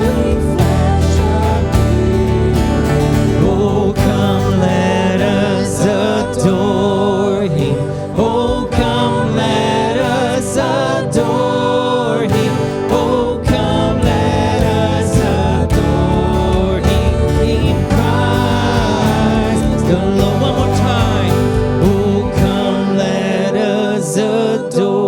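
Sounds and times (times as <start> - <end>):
instrumental backing: 0.0 - 24.8
voices singing worship song: 0.0 - 25.0.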